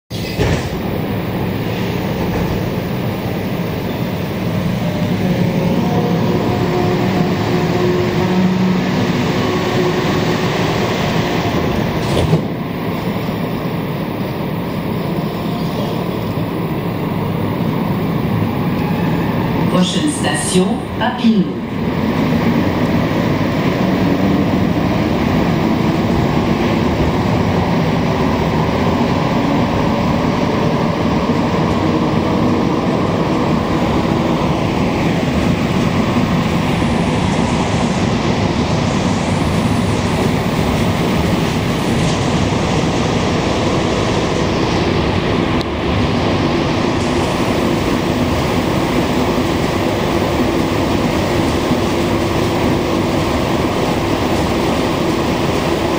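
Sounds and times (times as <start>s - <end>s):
train running gear rumble: 0.1s - 55.9s.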